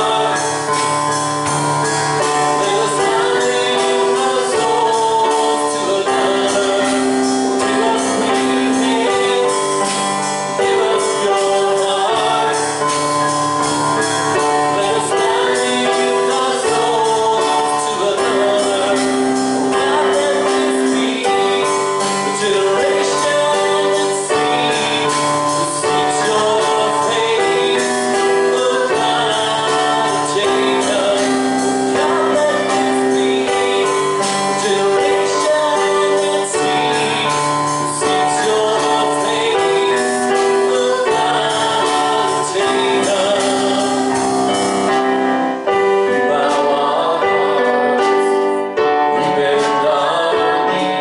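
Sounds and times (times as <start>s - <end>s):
light percussion: 0.0s - 47.0s
keyboard accompaniment: 0.0s - 51.0s
people singing worship music: 0.0s - 51.0s.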